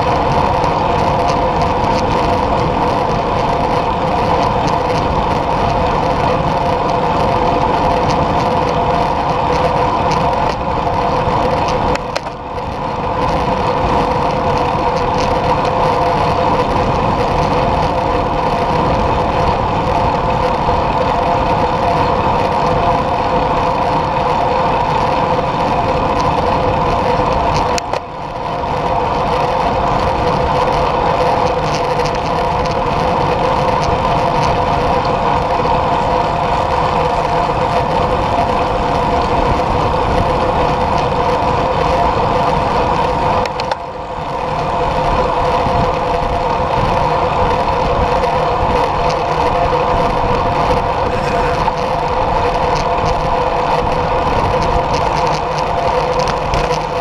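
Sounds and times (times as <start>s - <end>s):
tyre noise on asphalt: 0.0s - 57.0s
wind rushing over microphone: 0.0s - 57.0s.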